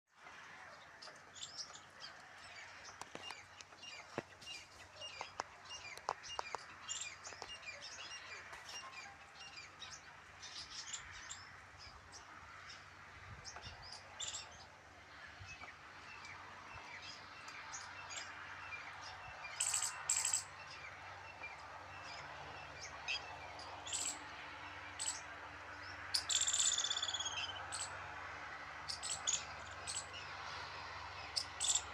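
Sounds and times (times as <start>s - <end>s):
birds chirping: 0.2s - 31.9s.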